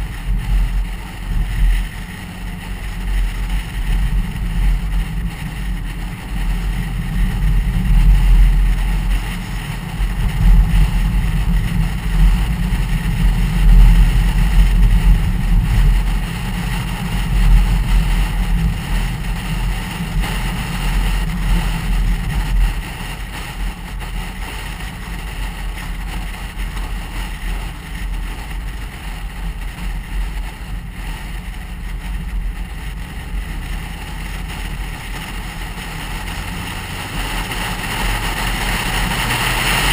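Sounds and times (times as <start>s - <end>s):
car engine rumble: 0.0s - 39.9s
tyre and wind hiss: 0.0s - 39.9s.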